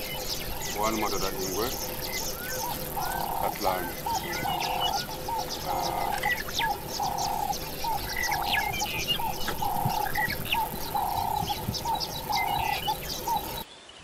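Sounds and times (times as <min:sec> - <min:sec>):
low bird trill: 0:00.0 - 0:13.6
birds chirping: 0:00.0 - 0:14.0.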